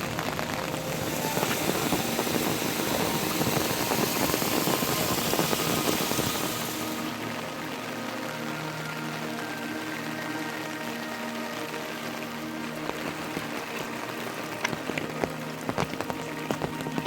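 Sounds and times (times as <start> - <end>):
faint background music: 0.0 - 17.0
heavy rain pouring: 0.0 - 17.0.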